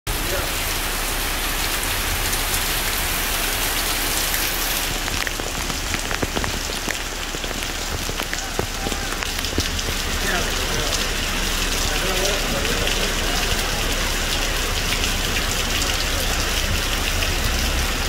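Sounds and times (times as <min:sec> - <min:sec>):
heavy rain hissing on street: 0:00.1 - 0:18.0.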